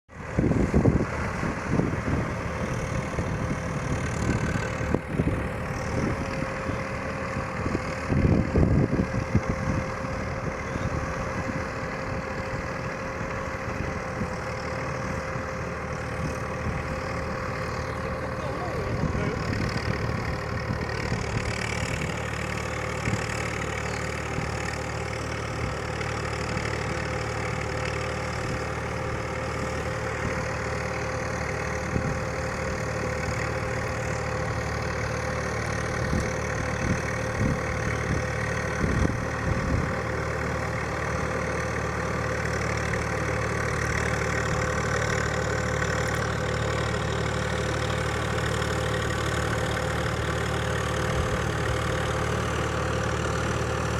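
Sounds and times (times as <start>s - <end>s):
engine idling: 0.1s - 53.9s.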